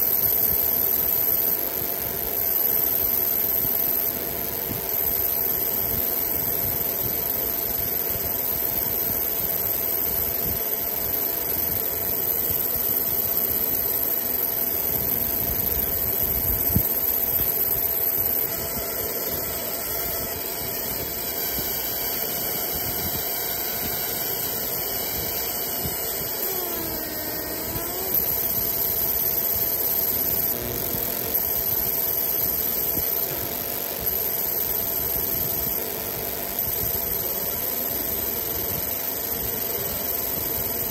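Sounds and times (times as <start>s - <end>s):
laser engraver mechanical hum: 0.0s - 40.9s
very high whine: 0.0s - 40.9s.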